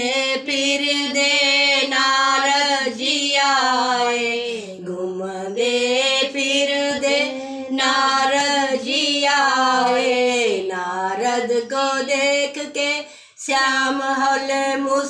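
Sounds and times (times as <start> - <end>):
elderly woman singing unaccompanied: 0.0 - 15.0.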